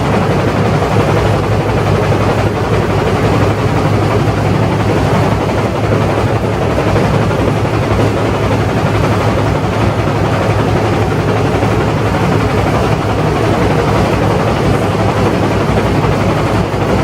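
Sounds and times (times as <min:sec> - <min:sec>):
fast even beating: 0:00.0 - 0:17.0
motor hum: 0:00.0 - 0:17.0.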